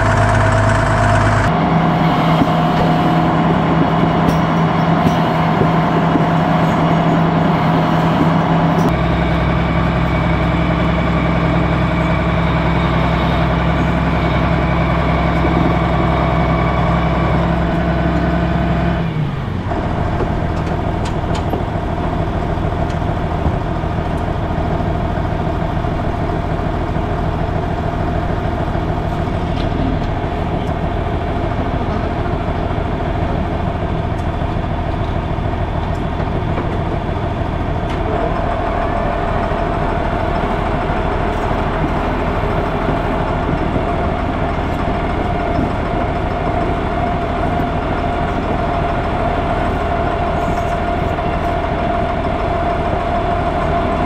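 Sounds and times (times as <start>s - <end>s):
farm machinery engine running: 0.0s - 54.0s.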